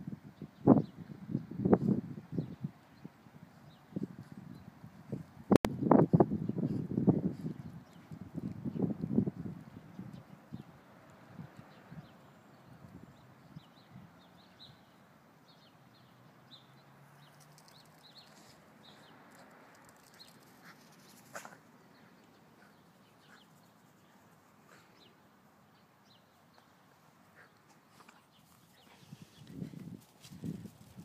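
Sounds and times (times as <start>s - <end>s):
small birds chirping faintly: 0.4s - 31.0s.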